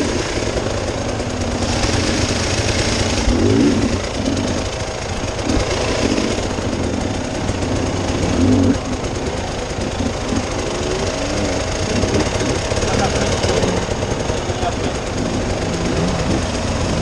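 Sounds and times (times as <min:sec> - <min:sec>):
off-road vehicle engine under load: 0:00.0 - 0:17.0
vehicle rattling and jolting: 0:00.0 - 0:17.0.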